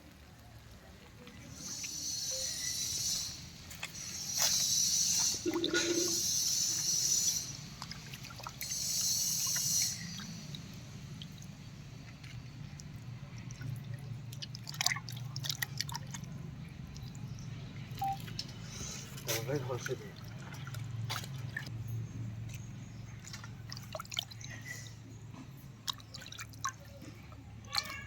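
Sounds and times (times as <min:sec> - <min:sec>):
water boiling and bubbling: 0:00.0 - 0:28.0.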